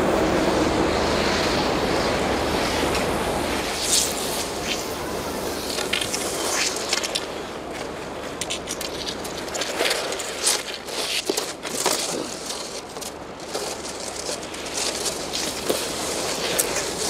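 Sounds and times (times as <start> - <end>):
steady outdoor noise: 0.0 - 17.0
skis and poles scraping snow: 1.0 - 17.0.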